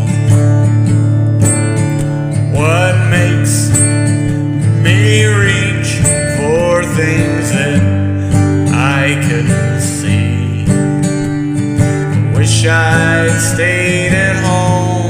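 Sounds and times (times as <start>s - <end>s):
country music guitar and bass: 0.0s - 15.0s
sliding lead guitar notes: 0.0s - 15.0s.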